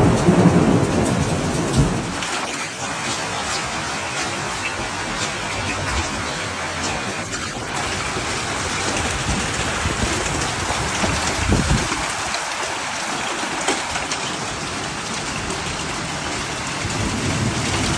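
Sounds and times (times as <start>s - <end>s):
heavy rain and hail pelting: 0.0s - 17.9s
low thunder rumble: 0.0s - 17.9s.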